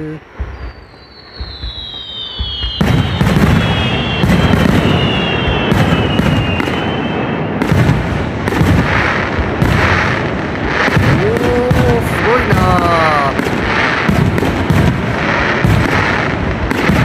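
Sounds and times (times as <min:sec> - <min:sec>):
firework whistle: 0:00.0 - 0:17.0
fireworks crackling and booming: 0:00.0 - 0:17.0.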